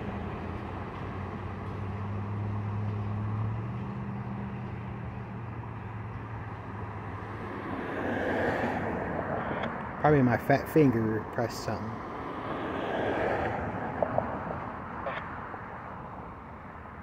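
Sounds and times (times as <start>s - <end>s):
low engine hum: 0.0s - 17.0s
road traffic passing: 0.0s - 17.0s.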